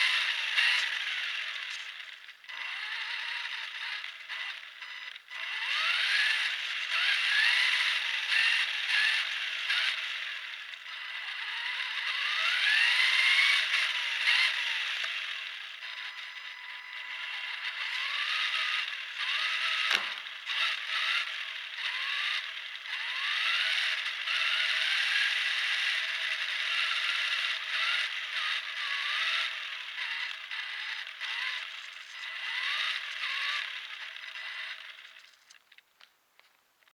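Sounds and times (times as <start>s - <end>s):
radio-controlled car motor whining: 0.0s - 35.7s.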